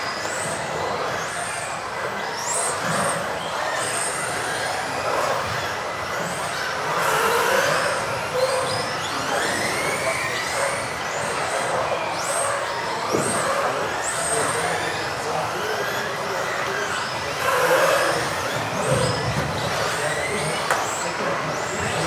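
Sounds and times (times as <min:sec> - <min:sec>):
electric rc car motors whining: 0:00.0 - 0:22.0
rc cars running on track: 0:00.0 - 0:22.0.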